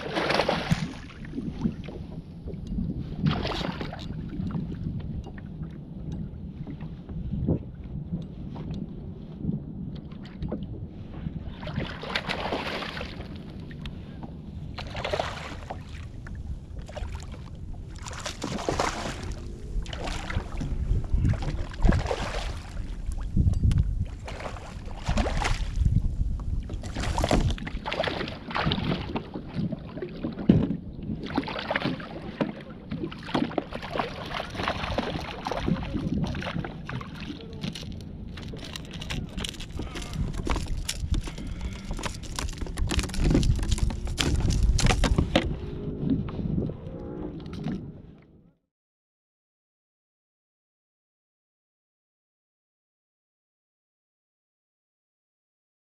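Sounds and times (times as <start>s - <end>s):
water splashing against kayak: 0.0s - 47.9s
wind buffeting microphone: 0.7s - 32.2s, 33.6s - 48.3s.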